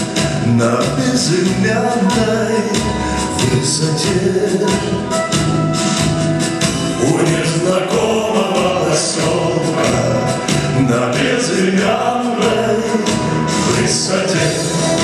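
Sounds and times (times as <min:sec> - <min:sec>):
band accompaniment: 0:00.0 - 0:15.0
man singing into microphone: 0:00.4 - 0:05.2, 0:07.0 - 0:15.0.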